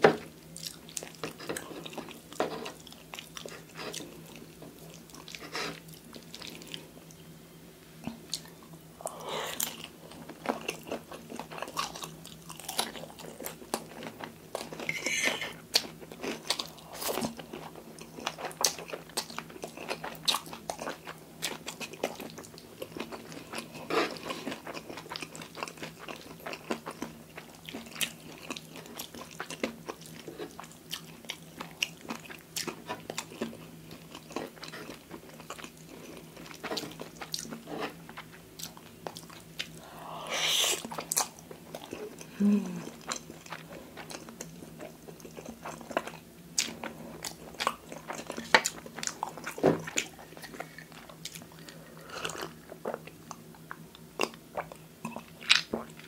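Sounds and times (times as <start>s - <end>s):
close chewing with wet smacks: 0.2s - 7.2s, 15.7s - 39.8s, 40.8s - 56.0s.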